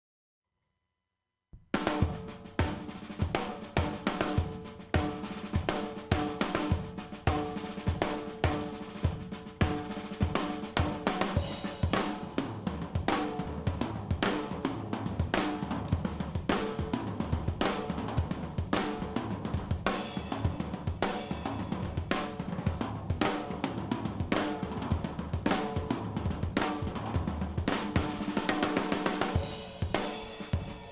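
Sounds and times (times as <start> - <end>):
drum kit groove: 1.6 - 30.9.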